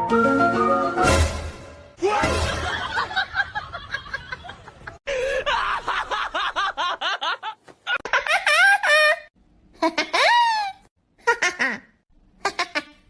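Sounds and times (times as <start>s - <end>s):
person laughing: 2.4s - 13.0s.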